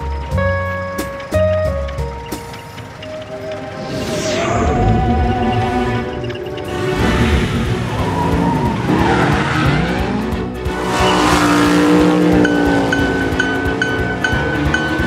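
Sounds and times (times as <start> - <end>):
background music: 0.0 - 15.0
tyres squealing: 0.0 - 15.0.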